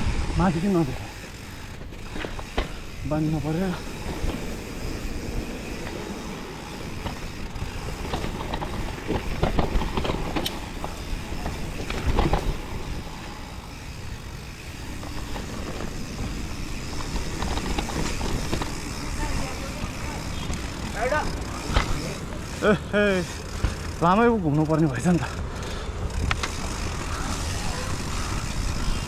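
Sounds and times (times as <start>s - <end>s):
mountain bike rolling on rough trail: 0.0s - 29.0s
bike knocks and rattles: 1.4s - 28.9s.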